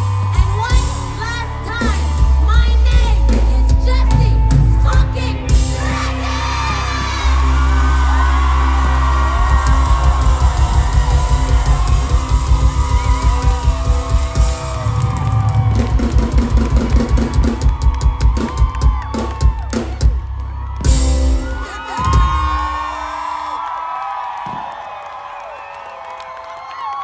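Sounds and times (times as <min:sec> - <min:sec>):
live rock band playing: 0:00.0 - 0:22.8
crowd cheering: 0:00.0 - 0:27.0.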